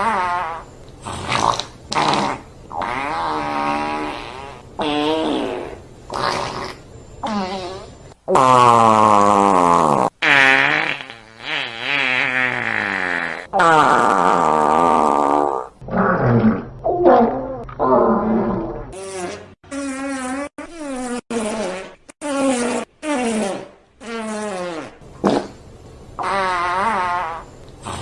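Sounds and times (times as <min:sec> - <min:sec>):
loud farts: 0:00.0 - 0:16.7, 0:17.8 - 0:25.6, 0:26.2 - 0:28.0.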